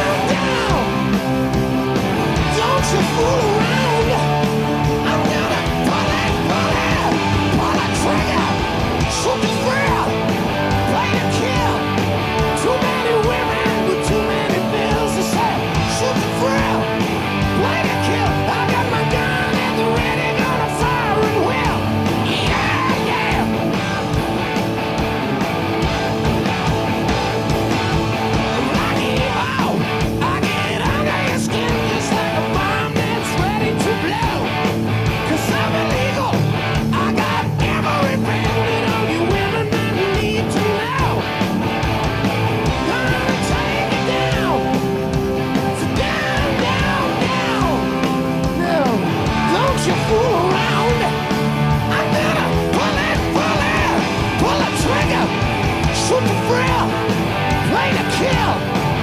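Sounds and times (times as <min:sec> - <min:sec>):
rock music with guitar and singing: 0:00.0 - 0:59.0.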